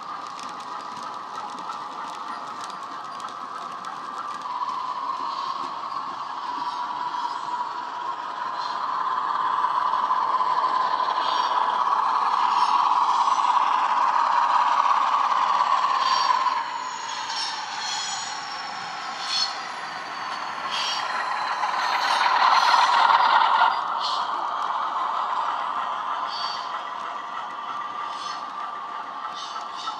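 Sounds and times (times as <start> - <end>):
model locomotive diesel engine sound: 0.0 - 29.9
wheels clicking on model track: 0.0 - 29.9.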